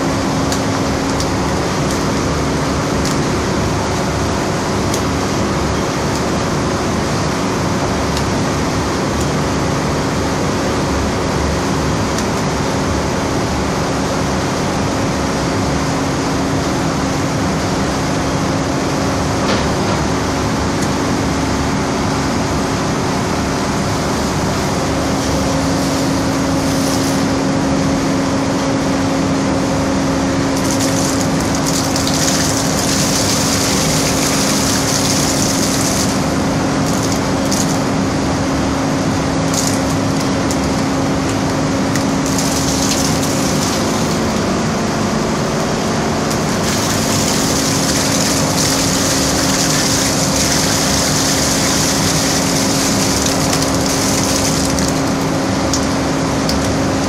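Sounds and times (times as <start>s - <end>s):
processing machinery humming: 0.0s - 57.0s.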